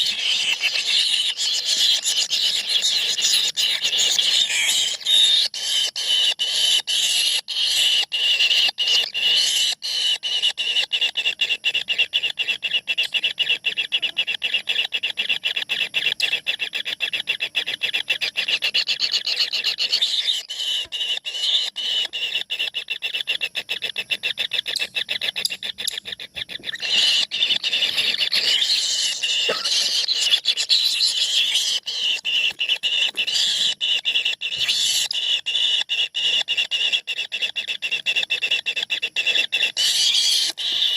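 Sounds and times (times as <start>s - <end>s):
bird nestlings calling: 0.0s - 40.9s.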